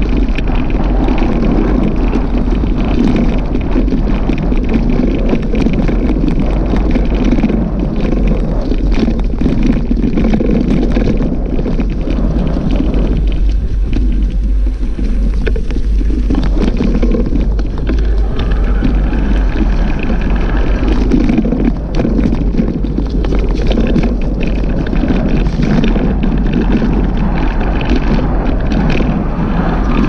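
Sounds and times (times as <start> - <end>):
bicycle rattling on dirt track: 0.0 - 30.0
low rumble: 0.0 - 30.0
wind rushing over microphone: 0.0 - 30.0.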